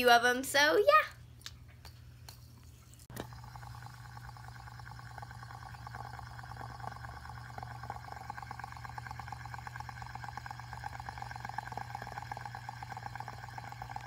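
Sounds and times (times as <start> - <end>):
low steady hum: 0.0 - 14.0
fidget spinner whirring: 2.3 - 14.0.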